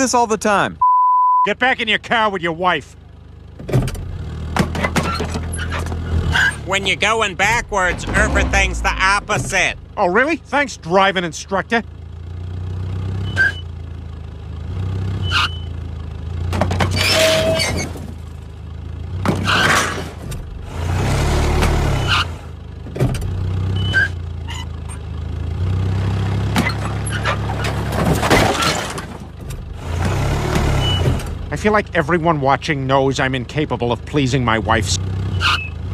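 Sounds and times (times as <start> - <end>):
diesel truck engine running: 0.0 - 0.8, 1.5 - 35.9.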